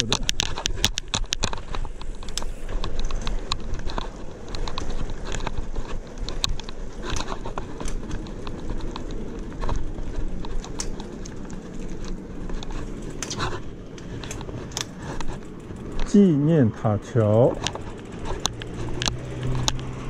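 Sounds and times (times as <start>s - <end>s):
bicycle clicks and rattles: 0.0s - 20.0s
tyres rumbling on concrete: 0.0s - 20.0s
wind: 0.0s - 20.0s.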